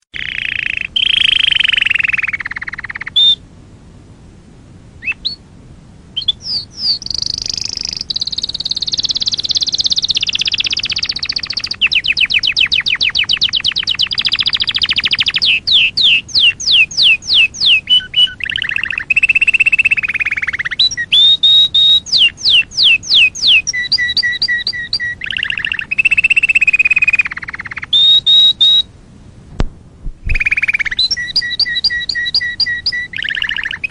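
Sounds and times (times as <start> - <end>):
birds singing: 0.0 - 3.4, 5.0 - 5.4, 6.2 - 28.9, 30.3 - 33.9.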